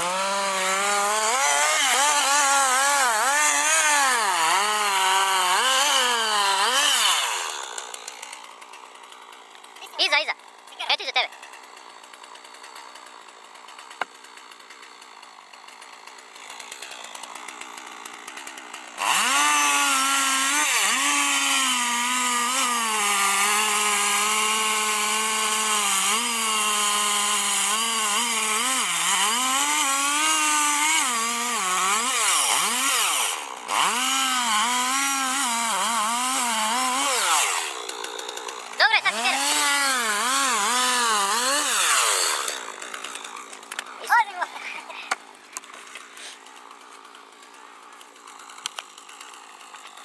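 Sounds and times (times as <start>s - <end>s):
chainsaw cutting wood: 0.0s - 50.0s.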